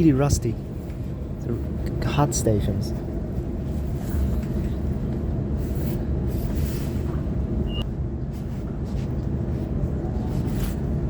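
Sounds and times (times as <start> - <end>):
electric train low rumble: 0.0 - 11.0.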